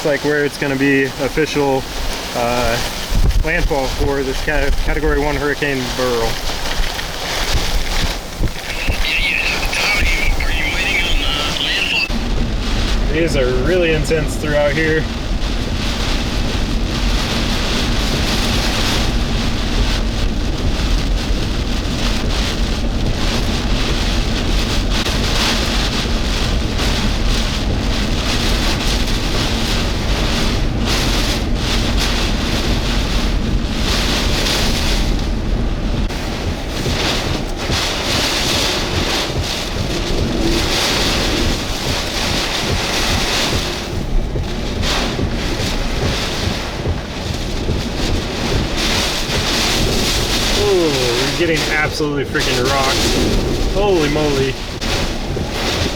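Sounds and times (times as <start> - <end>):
hurricane winds gusting: 0.0 - 55.9
rain: 0.0 - 55.9
wind noise on microphone: 0.0 - 55.9.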